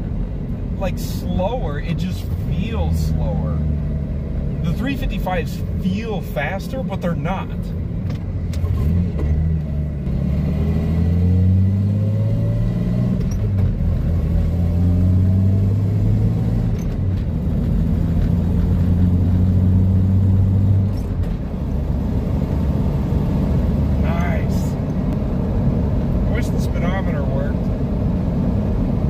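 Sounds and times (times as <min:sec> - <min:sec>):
truck engine heard from inside cab: 0:00.0 - 0:29.0.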